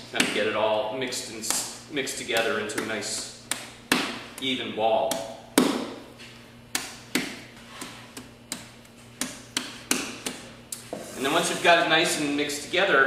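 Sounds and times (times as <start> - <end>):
hands slapping dough: 0.1 - 10.9.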